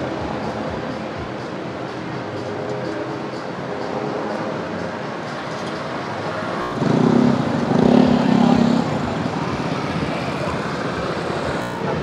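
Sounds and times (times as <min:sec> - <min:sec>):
background music: 0:00.0 - 0:12.0
motorbikes passing: 0:00.0 - 0:12.0
street traffic: 0:00.0 - 0:12.0.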